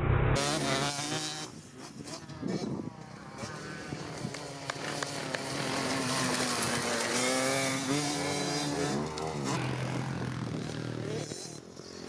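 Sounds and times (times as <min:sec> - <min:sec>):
motorbike engine revving hard: 0:00.4 - 0:11.6.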